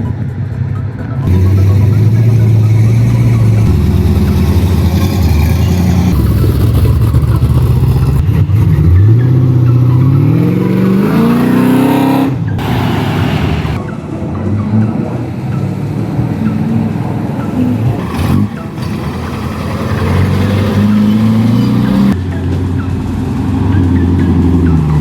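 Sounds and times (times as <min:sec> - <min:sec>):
car engine revving: 0:01.2 - 0:22.3.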